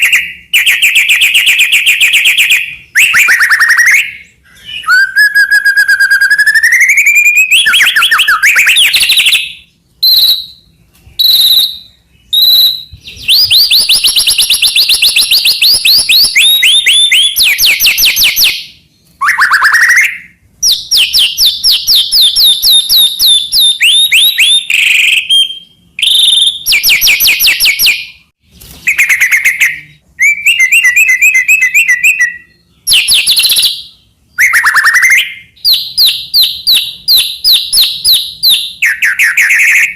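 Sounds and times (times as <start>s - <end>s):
bird singing whistles and trills: 0.0s - 28.2s, 28.8s - 39.9s.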